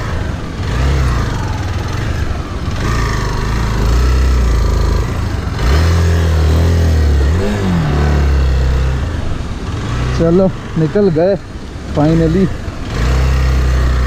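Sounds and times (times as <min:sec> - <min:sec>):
motorcycle engine low revs: 0:00.0 - 0:14.0.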